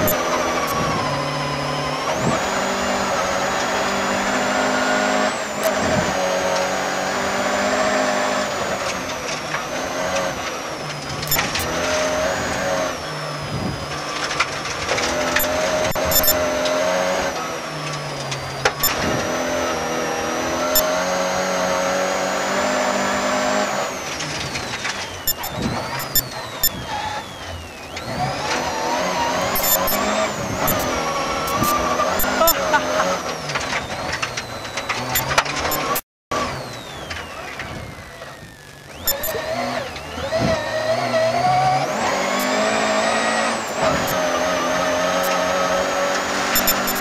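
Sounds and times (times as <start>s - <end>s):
car engine under hard throttle: 0.0s - 47.0s.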